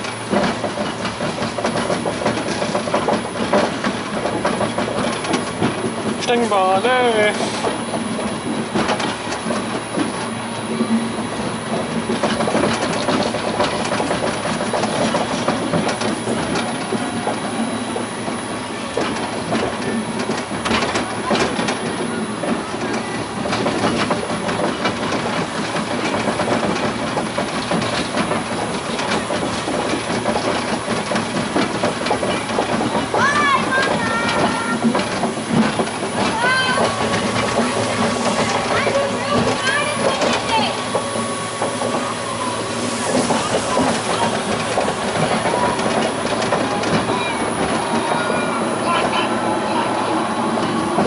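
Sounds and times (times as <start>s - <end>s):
monorail wheels rattling on track: 0.0s - 51.0s.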